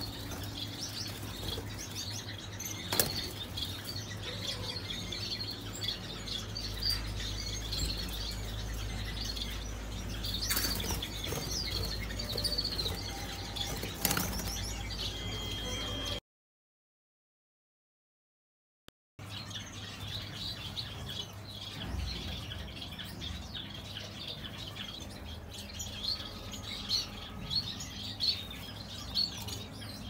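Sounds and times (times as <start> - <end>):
small birds chirping: 0.0 - 16.2, 19.2 - 30.0.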